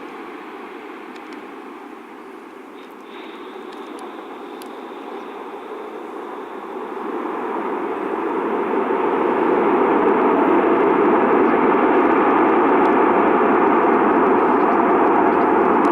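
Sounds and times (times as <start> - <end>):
jet engines roaring: 0.0 - 15.9.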